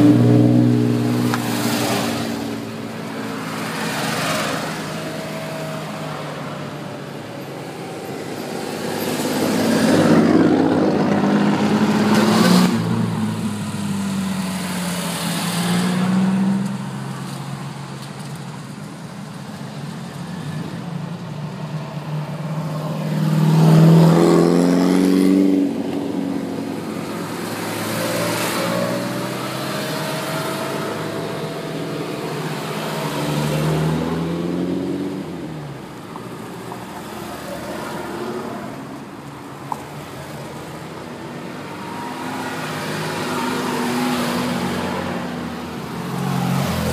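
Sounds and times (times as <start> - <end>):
sports cars driving past: 0.0 - 46.9.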